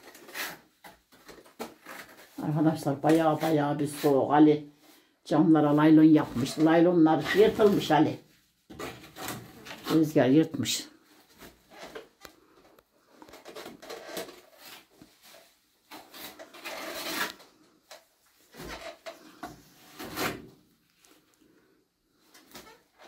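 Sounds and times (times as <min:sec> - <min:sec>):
rubbing and scraping handling noises: 0:00.0 - 0:23.0.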